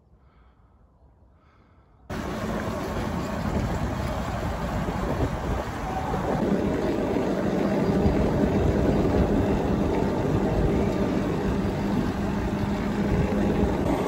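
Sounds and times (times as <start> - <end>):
steady hum: 2.1 - 14.0
wind buffeting microphone: 2.1 - 14.0.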